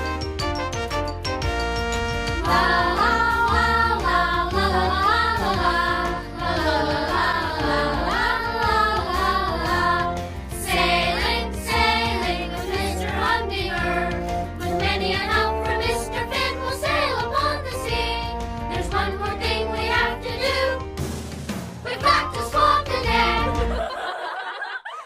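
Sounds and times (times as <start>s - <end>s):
children's song with band: 0.0s - 24.7s.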